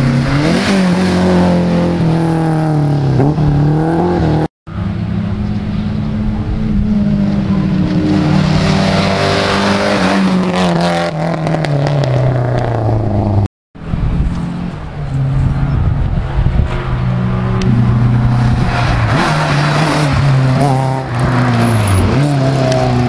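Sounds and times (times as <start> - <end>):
rally car engines passing: 0.0 - 23.0.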